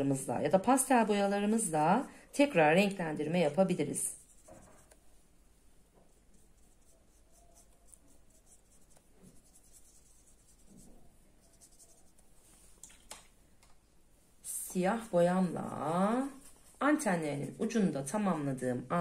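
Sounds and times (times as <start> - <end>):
brush strokes on paper: 0.7 - 12.8, 13.8 - 18.6.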